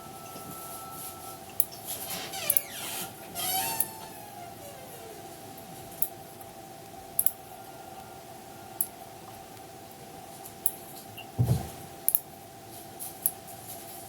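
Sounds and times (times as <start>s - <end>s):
steady hum with faint tone: 0.0s - 14.0s.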